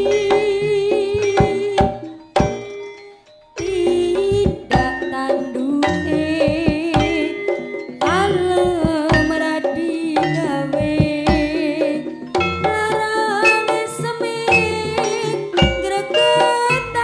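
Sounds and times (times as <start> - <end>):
hand drums beating: 0.0 - 2.7, 3.6 - 17.0
wavering high melody: 0.0 - 17.0.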